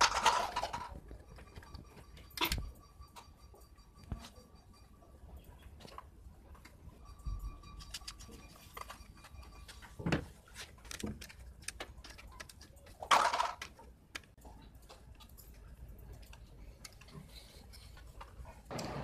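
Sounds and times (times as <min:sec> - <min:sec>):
tools clicking and tapping: 0:00.0 - 0:18.6.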